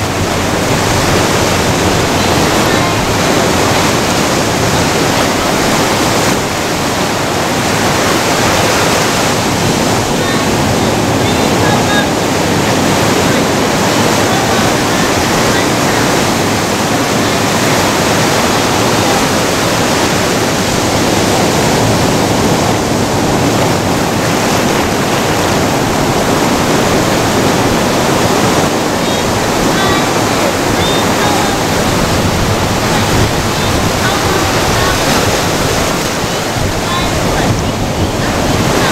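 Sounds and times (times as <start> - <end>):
ocean surf on rocks: 0.0 - 38.9.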